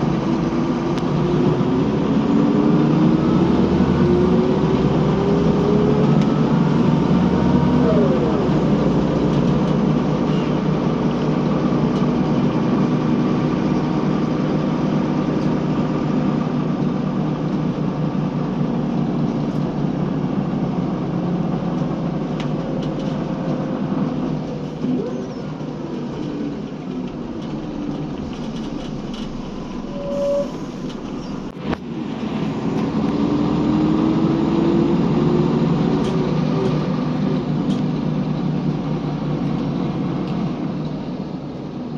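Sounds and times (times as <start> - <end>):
bus diesel engine running: 0.0 - 41.9
road noise: 0.0 - 41.9.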